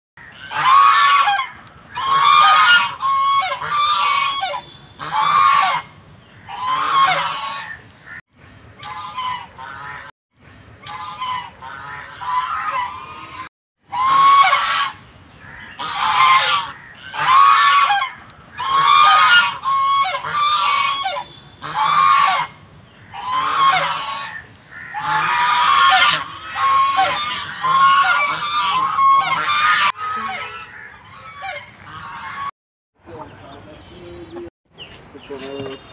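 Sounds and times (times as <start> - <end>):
geese honking loudly: 0.2 - 8.2, 8.8 - 10.1, 10.8 - 32.5.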